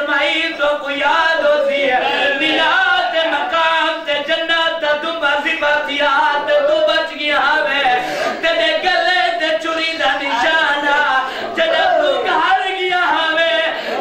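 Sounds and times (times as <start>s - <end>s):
man chanting through microphone: 0.0s - 14.0s.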